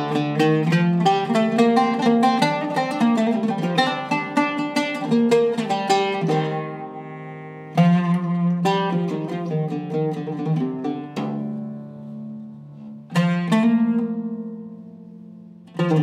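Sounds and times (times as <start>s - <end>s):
oud plucked with plectrum: 0.0s - 16.0s.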